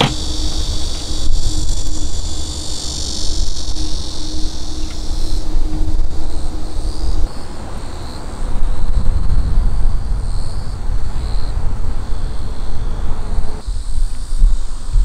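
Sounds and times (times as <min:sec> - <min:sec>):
low rumble: 0:00.0 - 0:14.6
high insect-like buzzing: 0:00.0 - 0:15.0.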